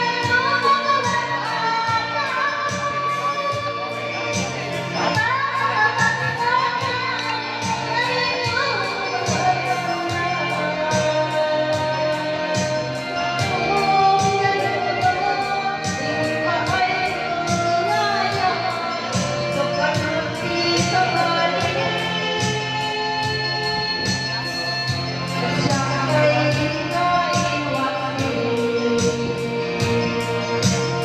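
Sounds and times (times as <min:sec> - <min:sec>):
backing track with steady beat: 0:00.0 - 0:31.0
woman singing karaoke: 0:00.0 - 0:31.0.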